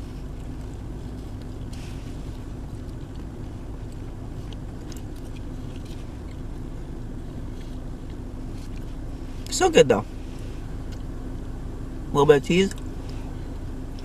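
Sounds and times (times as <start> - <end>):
person chewing food: 0.0 - 9.5, 10.1 - 11.7, 12.7 - 14.0
car engine and heater hum: 0.0 - 14.0.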